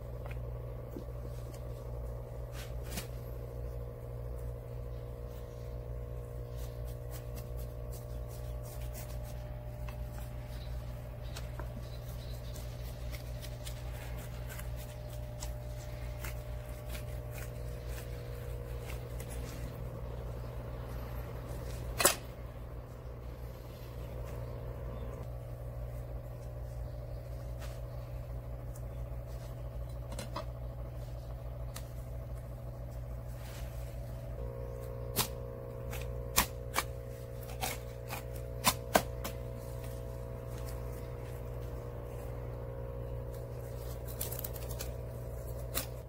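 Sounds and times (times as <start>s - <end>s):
low hum: 0.0s - 46.0s.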